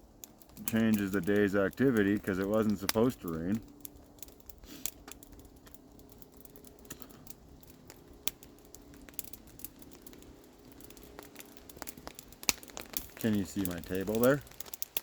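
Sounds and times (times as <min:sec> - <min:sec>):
raindrops pattering on a tarp: 0:00.0 - 0:15.0.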